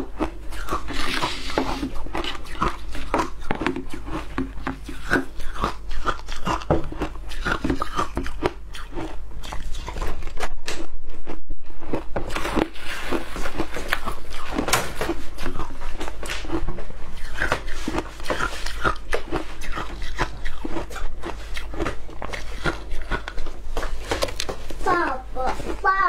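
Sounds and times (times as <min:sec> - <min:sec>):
chewing crunchy ice: 0:00.0 - 0:26.0.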